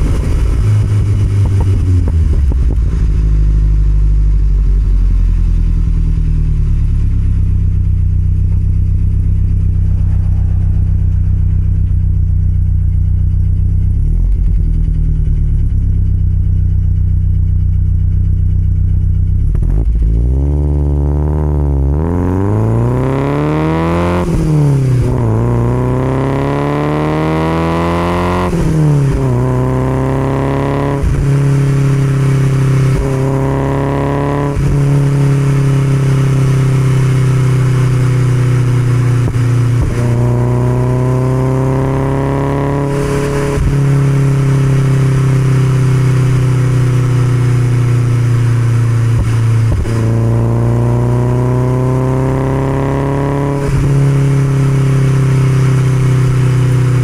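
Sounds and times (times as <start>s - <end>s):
car engine revving with upshifts: 0.0s - 15.9s, 19.3s - 57.0s.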